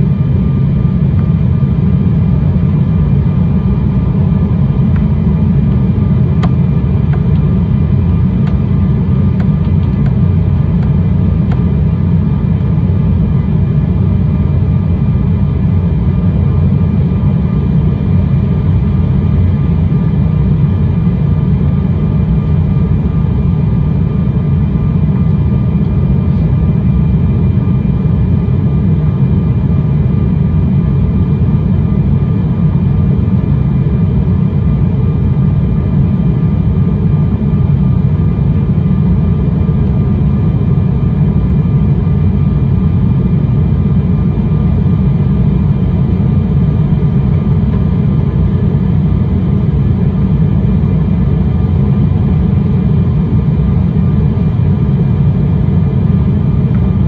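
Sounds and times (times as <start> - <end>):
airliner cabin rumble: 0.0 - 57.0
faint steady whining tones: 0.0 - 57.0.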